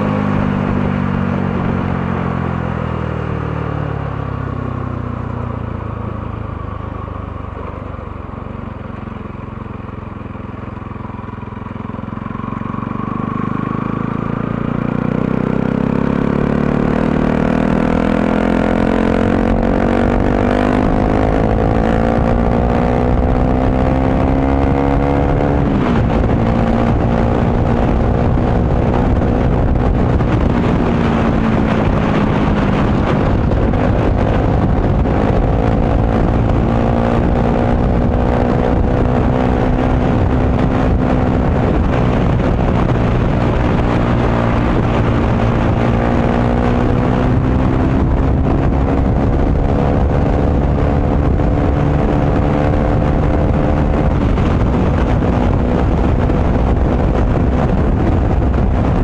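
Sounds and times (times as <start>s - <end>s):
motorcycle engine accelerating: 0.0s - 59.0s
steady rushing noise: 4.8s - 59.0s.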